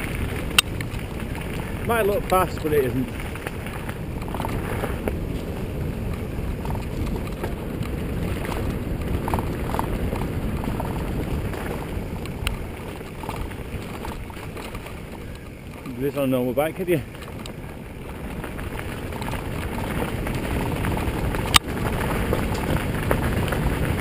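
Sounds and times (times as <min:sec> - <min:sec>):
bike tyres rolling on dirt: 0:00.0 - 0:24.0
wind buffeting microphone: 0:00.0 - 0:24.0.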